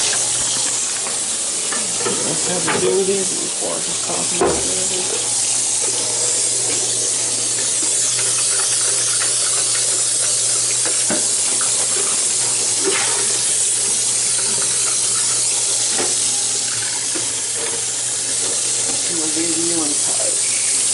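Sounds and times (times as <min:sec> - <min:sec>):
water running: 0:00.0 - 0:20.9.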